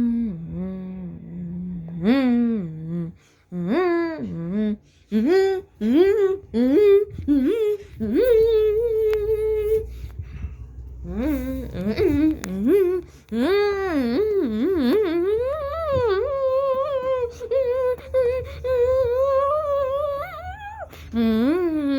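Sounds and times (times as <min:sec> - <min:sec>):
person humming warbling notes: 0:00.0 - 0:09.9, 0:11.0 - 0:21.9.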